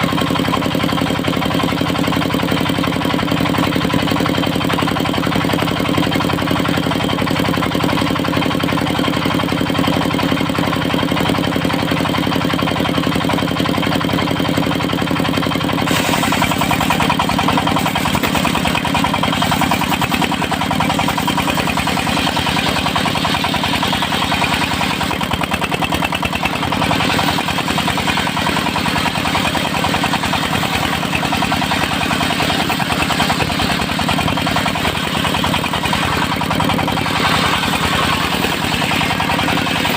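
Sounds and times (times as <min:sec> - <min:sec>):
portable sawmill running: 0:00.0 - 0:39.9.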